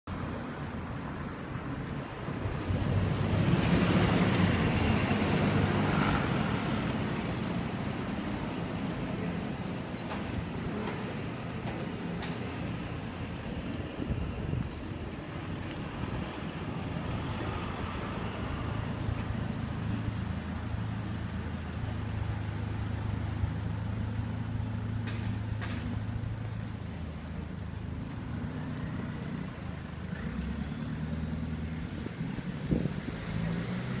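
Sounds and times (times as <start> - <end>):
street noise: 0.1 - 34.0.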